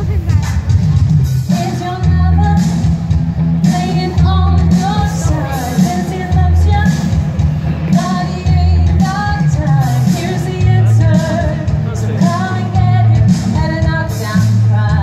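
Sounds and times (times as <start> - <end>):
heavy bass line: 0.0 - 15.0
woman singing pop song: 0.0 - 15.0.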